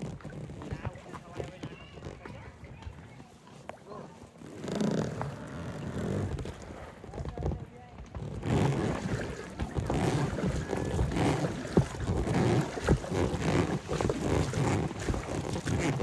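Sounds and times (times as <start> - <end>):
oars splashing in water: 0.0 - 16.0.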